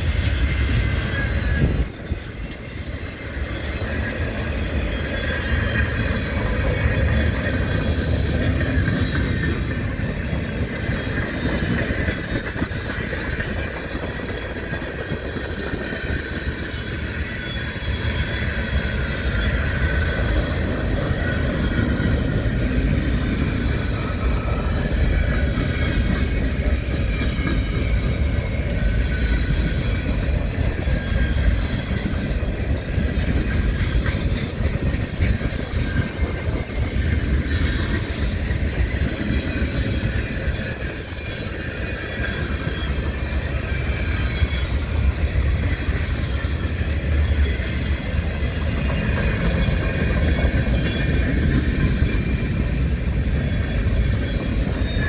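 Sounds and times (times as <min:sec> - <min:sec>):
high wheel squeal: 0:00.0 - 0:55.0
train rumbling on rails: 0:00.0 - 0:55.0.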